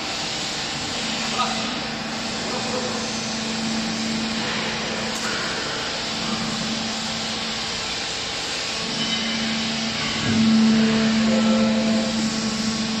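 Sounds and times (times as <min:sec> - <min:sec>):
hydraulic baling machinery running: 0:00.0 - 0:13.0.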